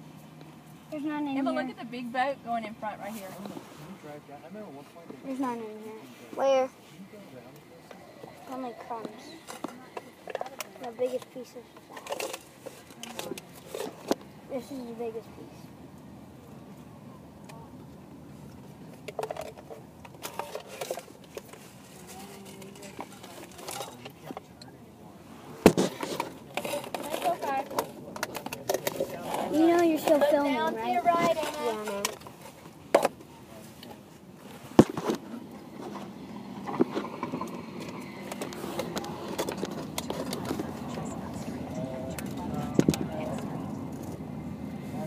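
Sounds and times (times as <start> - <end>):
car cabin road rumble: 0.0 - 45.0.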